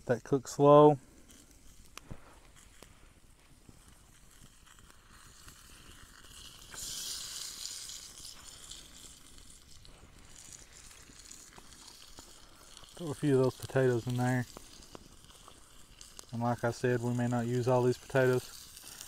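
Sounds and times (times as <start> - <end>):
pork sizzling in a pan: 0.0 - 19.0.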